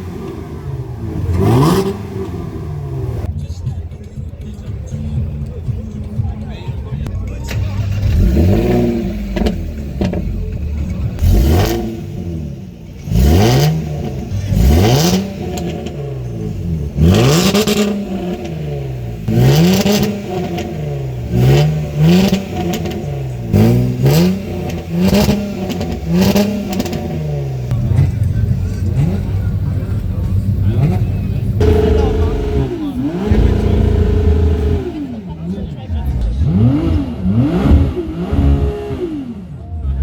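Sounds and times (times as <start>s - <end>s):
car engine revving: 0.0s - 3.3s, 7.3s - 39.6s.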